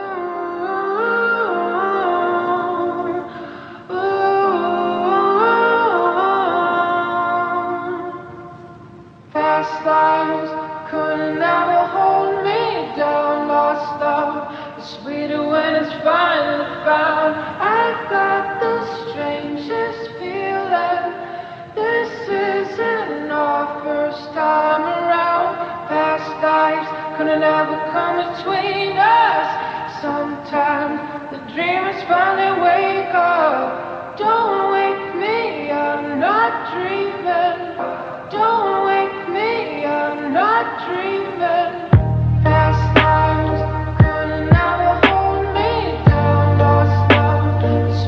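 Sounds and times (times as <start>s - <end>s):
song with singing voices: 0.0s - 48.0s.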